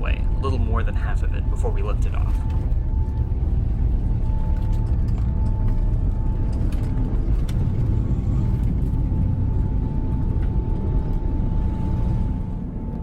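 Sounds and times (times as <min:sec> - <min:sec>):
aircraft cabin engine rumble: 0:00.0 - 0:13.0
faint high hum: 0:00.0 - 0:13.0.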